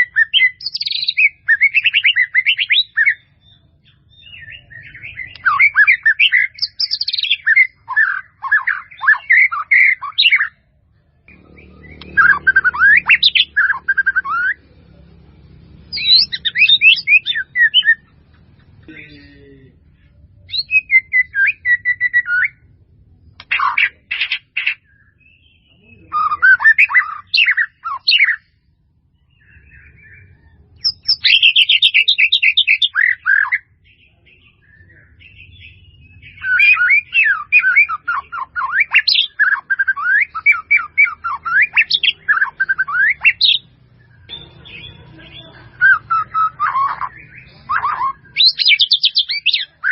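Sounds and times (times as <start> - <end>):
bird chirping and singing: 0.0 - 49.9.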